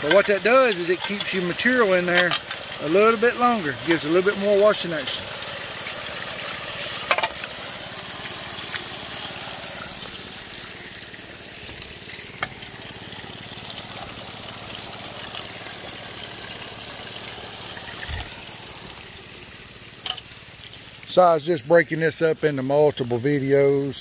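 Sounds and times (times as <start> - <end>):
water spraying and splashing: 0.0 - 24.0.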